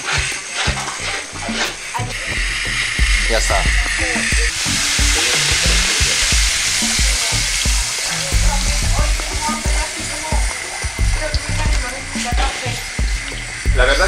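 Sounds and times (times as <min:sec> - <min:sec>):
liquid streaming through strainer: 0:00.0 - 0:13.7
sizzling in hot oil: 0:00.0 - 0:14.0.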